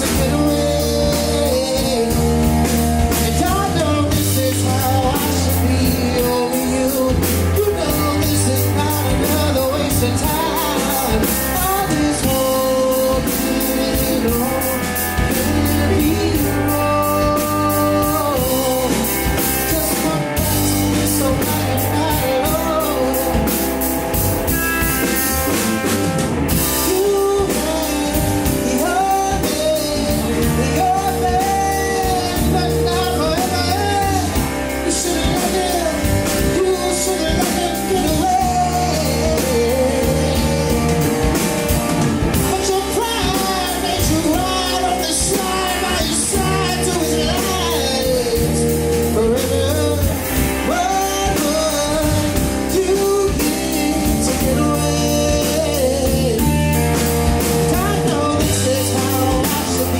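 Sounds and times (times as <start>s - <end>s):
man singing: 0.0s - 59.9s
rock band playing: 0.0s - 59.9s.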